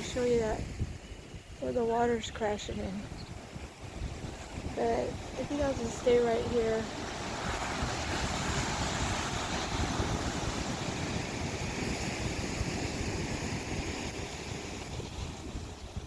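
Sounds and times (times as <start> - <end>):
ocean surf washing ashore: 0.0 - 16.0
wind on microphone: 0.0 - 16.0.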